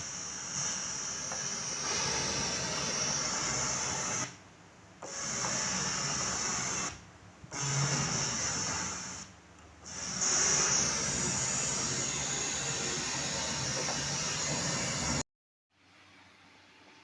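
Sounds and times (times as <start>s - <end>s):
synthesizer output hiss: 0.0s - 4.4s, 5.1s - 9.3s, 9.9s - 15.2s.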